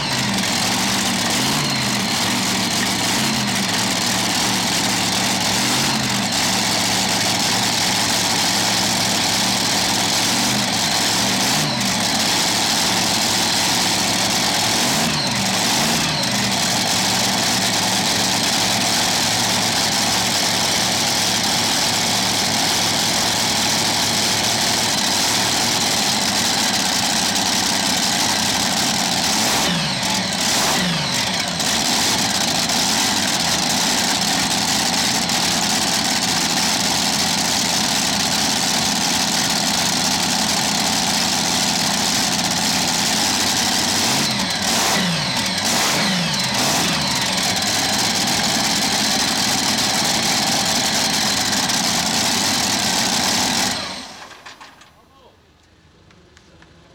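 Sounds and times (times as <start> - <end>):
tractor engine running at fast idle: 0.0 - 55.0.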